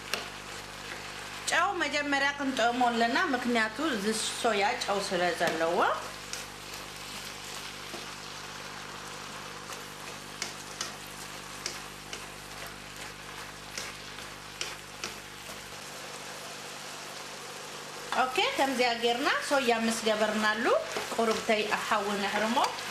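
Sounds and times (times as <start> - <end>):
vegetables sizzling in frying pan: 0.0 - 22.9.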